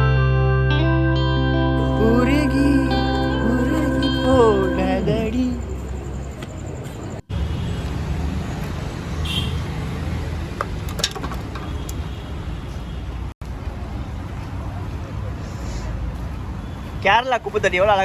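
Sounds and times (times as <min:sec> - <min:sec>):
road traffic rumble: 0:01.2 - 0:18.0.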